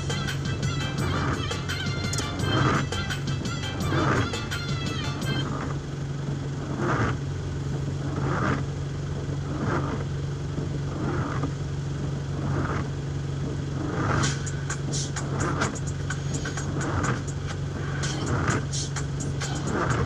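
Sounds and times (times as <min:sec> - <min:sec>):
windshield wipers swishing: 0:00.0 - 0:05.8, 0:06.4 - 0:20.0
car engine hum: 0:00.0 - 0:20.0.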